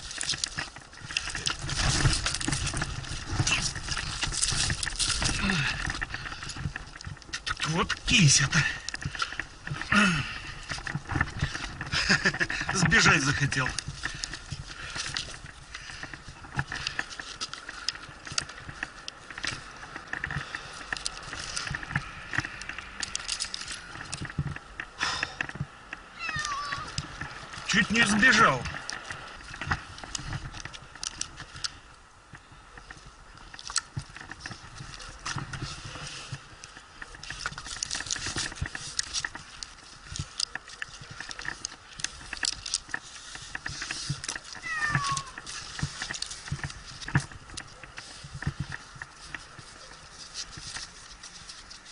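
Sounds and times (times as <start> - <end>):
clicks scrapes and rustling: 0.0 - 51.9.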